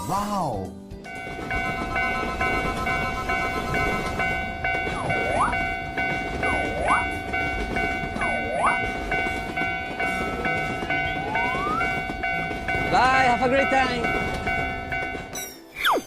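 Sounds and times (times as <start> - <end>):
railroad crossing signal ringing: 1.0 - 15.6
train rumble: 1.1 - 15.4.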